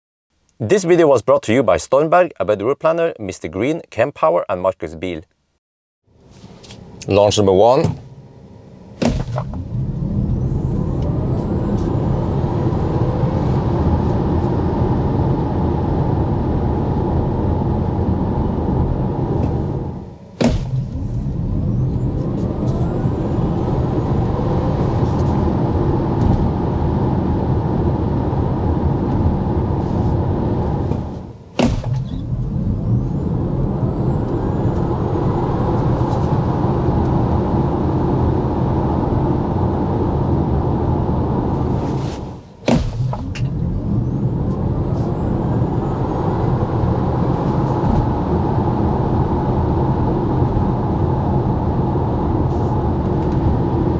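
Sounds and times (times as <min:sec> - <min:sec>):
tyre and wind noise: 0:08.9 - 0:53.9.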